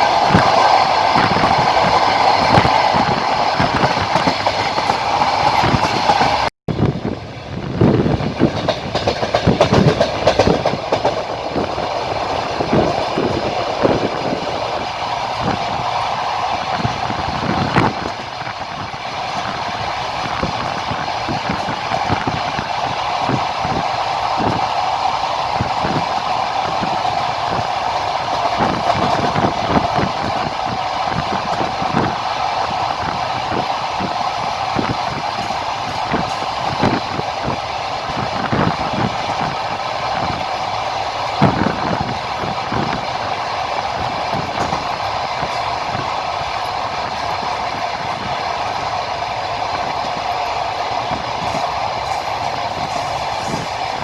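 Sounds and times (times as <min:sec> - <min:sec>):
train wheels rumbling on track: 0:00.0 - 0:54.0
wheels clacking over rail joints: 0:00.0 - 0:54.0.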